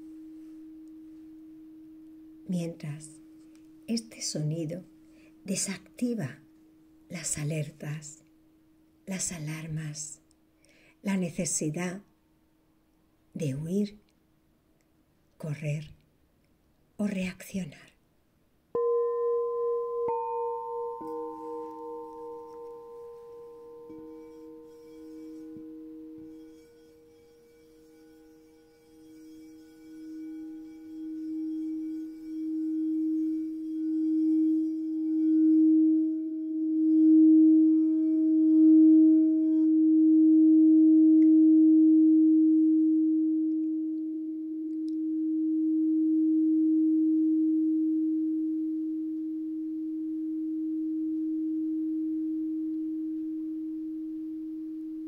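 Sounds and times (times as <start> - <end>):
singing bowl sustained tone: 0.0 - 8.2, 18.8 - 55.0.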